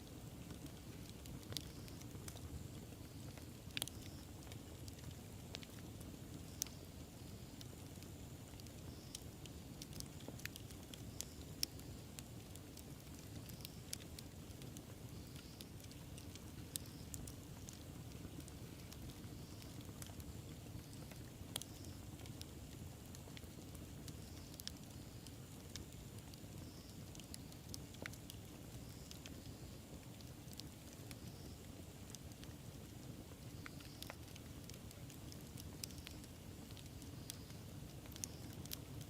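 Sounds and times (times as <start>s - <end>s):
bonfire pops and snaps: 0.0s - 39.0s
low rumble of flames: 0.0s - 39.0s.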